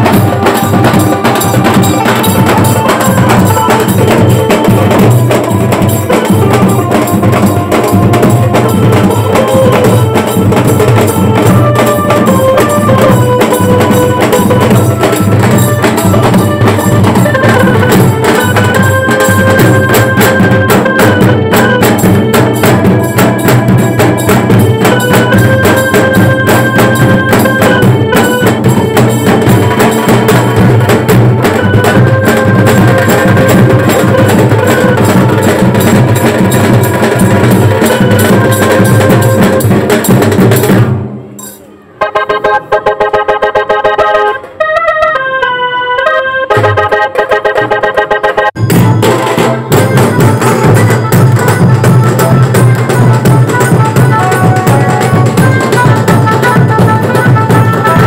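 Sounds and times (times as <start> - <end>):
held note melody: 0.0 - 40.8, 41.4 - 58.0
fast loud drumming: 0.0 - 41.6, 46.5 - 58.0.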